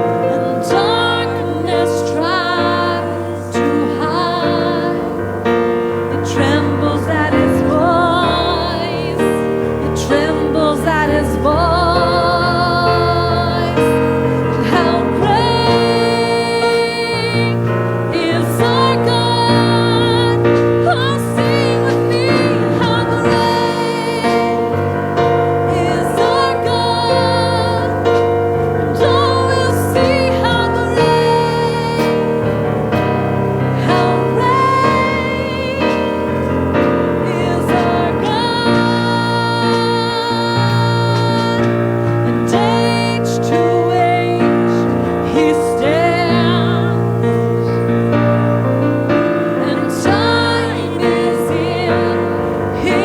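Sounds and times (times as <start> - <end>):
gospel singing: 0.0 - 53.0
piano and keyboard chords: 0.0 - 53.0.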